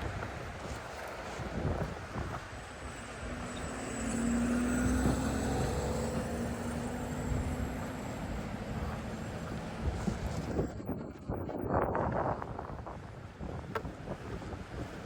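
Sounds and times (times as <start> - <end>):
noisy outdoor background: 0.0 - 15.0
vehicle engine hum: 0.0 - 15.0.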